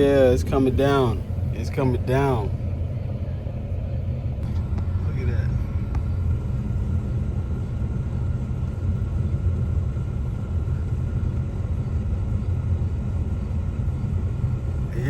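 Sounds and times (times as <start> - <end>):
car cabin engine and road noise: 0.0 - 15.0.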